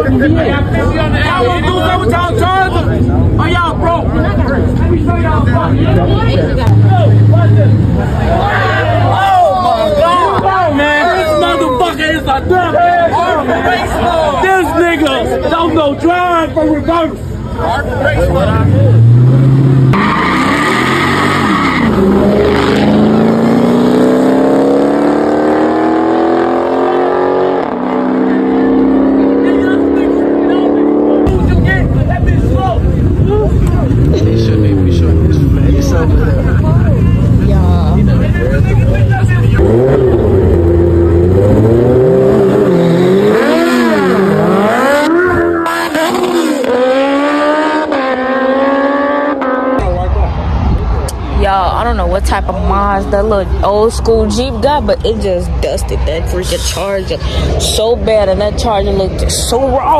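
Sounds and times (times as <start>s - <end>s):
car engine accelerating hard: 0.0s - 11.8s, 15.5s - 59.9s.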